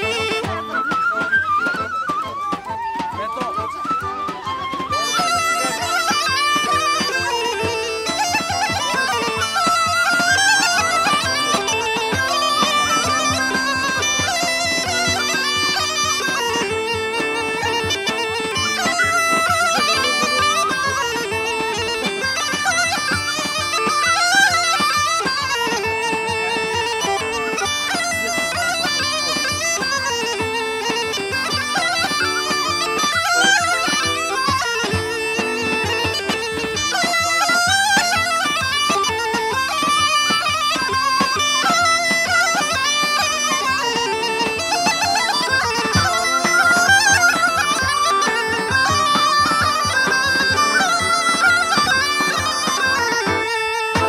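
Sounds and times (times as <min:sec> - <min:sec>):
accordion accompaniment: 0:00.0 - 0:54.0
wooden pipe playing fast melody: 0:00.0 - 0:54.0.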